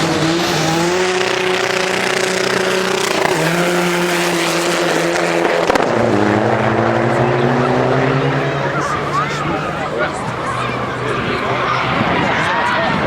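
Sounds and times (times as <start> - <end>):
car engine running loudly: 0.0 - 13.0.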